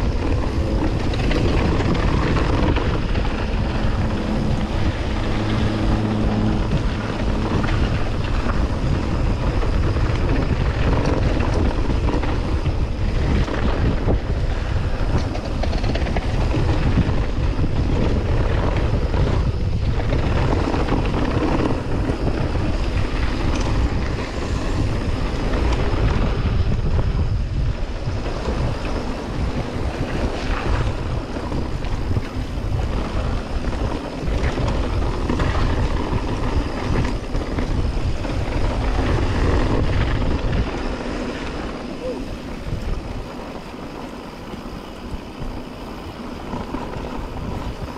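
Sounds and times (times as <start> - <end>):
bike knocking and rattling: 0.0 - 47.9
tyres rolling over dirt: 0.0 - 47.9
wind buffeting microphone: 0.0 - 47.9.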